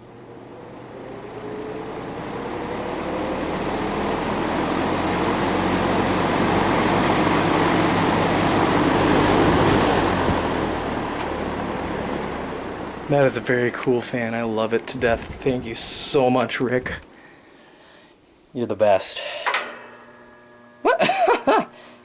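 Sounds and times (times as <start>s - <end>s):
motor hum: 0.0s - 18.4s, 19.5s - 22.0s
fan air rushing: 0.0s - 22.0s
fan motor whine: 0.0s - 22.0s.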